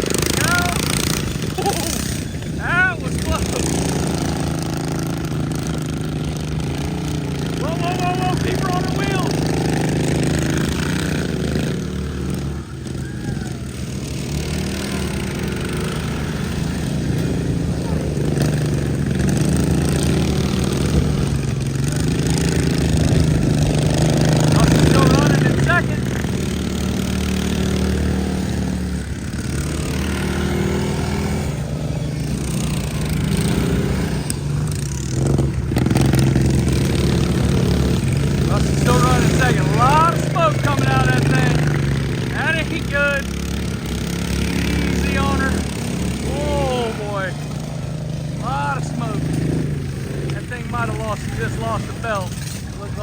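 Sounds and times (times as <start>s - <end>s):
lawn mower engines running: 0.0s - 53.0s.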